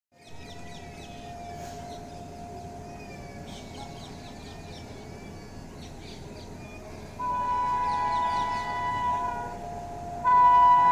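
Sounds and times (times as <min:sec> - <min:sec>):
birds chirping: 0:00.2 - 0:10.9
faint steady hum: 0:00.3 - 0:10.9.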